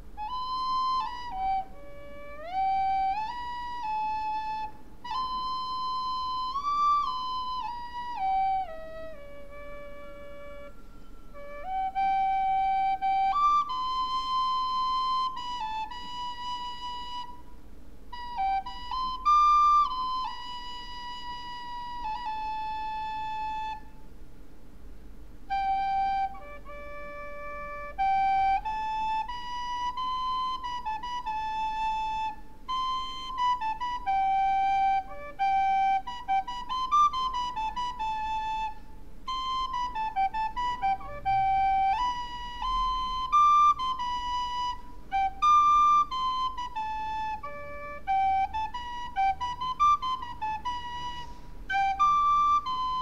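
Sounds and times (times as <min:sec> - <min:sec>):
out of tune recorder melody: 0:00.0 - 0:17.5, 0:18.1 - 0:24.0, 0:25.4 - 0:53.0.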